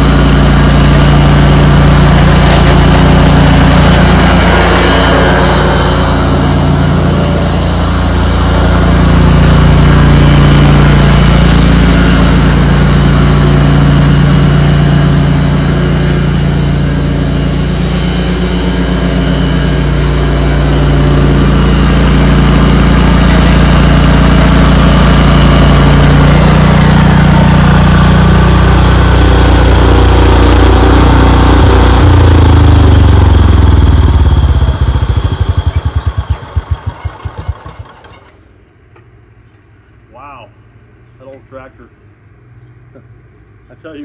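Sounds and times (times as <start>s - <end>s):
garden tractor mowing grass: 0.0s - 38.4s.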